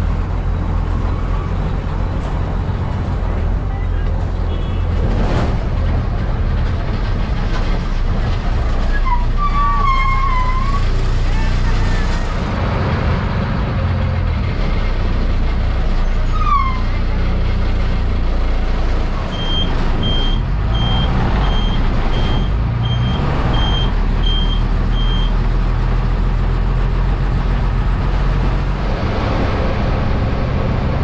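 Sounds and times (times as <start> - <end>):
bus engine running: 0.0 - 31.0.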